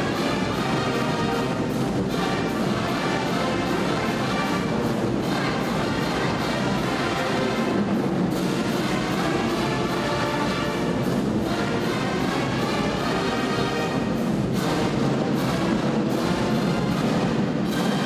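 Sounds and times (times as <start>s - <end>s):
horns: 0.0s - 18.0s.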